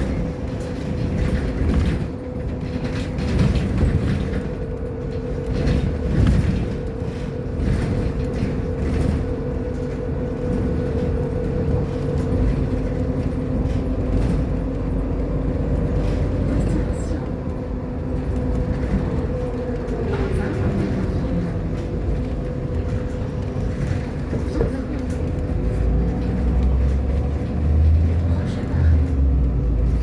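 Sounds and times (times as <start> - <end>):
bus rumbling along road: 0.0 - 30.0
bus whine: 0.0 - 30.0
knocks and rattles: 0.0 - 30.0.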